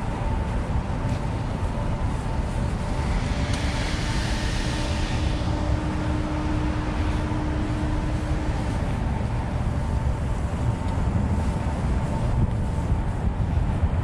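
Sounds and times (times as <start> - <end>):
distant city traffic hum: 0.0 - 14.0
faint steady hum: 0.0 - 14.0
wind buffeting the microphone: 0.0 - 14.0.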